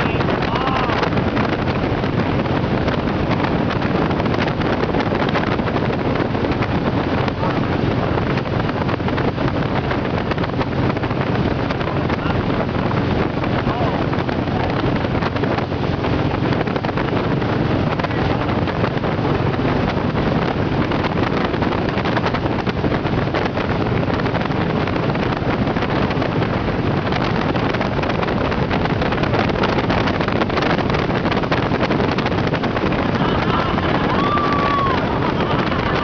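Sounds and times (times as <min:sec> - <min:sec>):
motorboat running at speed: 0:00.0 - 0:36.0
wind on microphone: 0:00.0 - 0:36.0.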